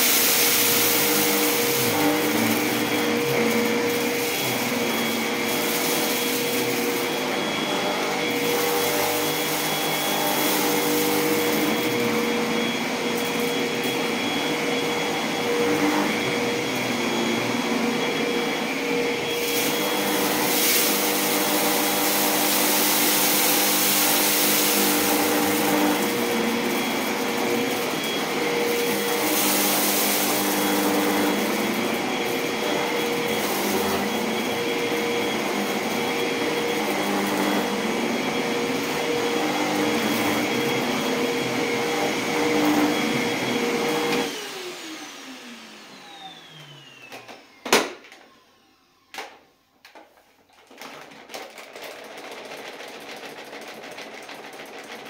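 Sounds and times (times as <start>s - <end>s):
stick vacuum running: 0.0s - 55.0s.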